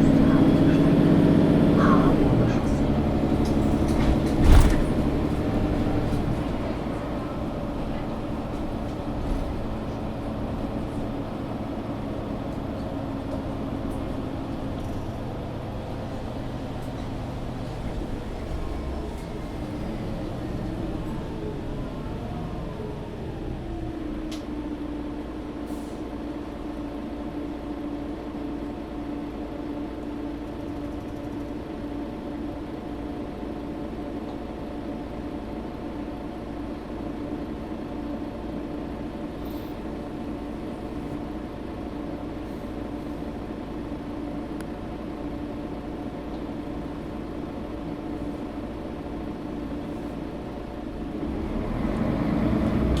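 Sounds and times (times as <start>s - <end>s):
bus drivetrain whine: 0.0s - 53.0s
steady engine hum: 0.0s - 53.0s.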